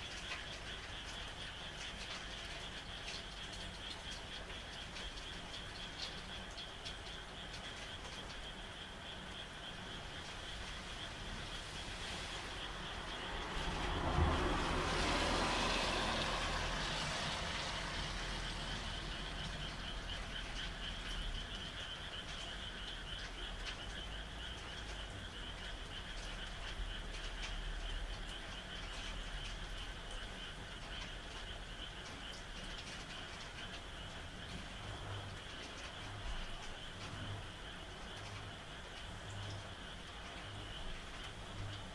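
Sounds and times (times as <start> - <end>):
frogs calling in pulsing trill: 0.0 - 41.9
rain hiss: 0.0 - 41.9
raindrop ticks: 0.0 - 41.9.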